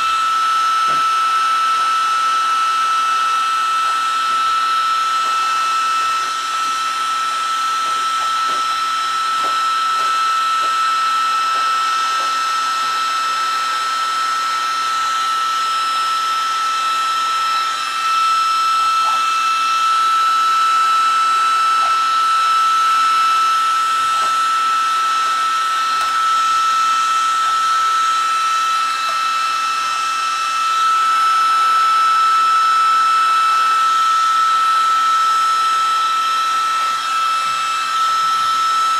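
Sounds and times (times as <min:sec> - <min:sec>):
heat gun blowing with whine: 0:00.0 - 0:38.9.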